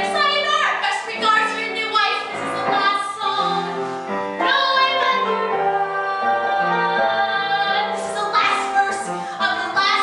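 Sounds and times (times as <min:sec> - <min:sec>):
woman singing: 0:00.0 - 0:03.7, 0:04.4 - 0:10.0.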